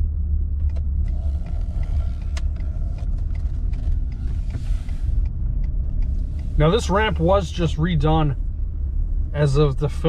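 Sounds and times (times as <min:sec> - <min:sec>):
road and engine rumble: 0:00.0 - 0:10.0.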